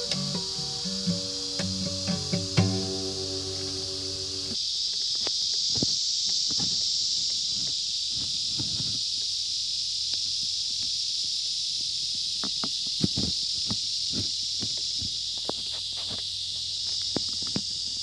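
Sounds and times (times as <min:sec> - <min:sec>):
insect chorus droning: 0:00.0 - 0:18.0.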